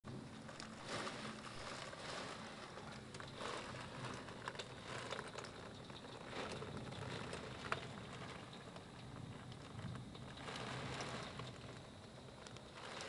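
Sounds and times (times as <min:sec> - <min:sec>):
heavy rain hissing on window: 0:00.1 - 0:13.0
raindrops tapping glass: 0:01.7 - 0:13.0.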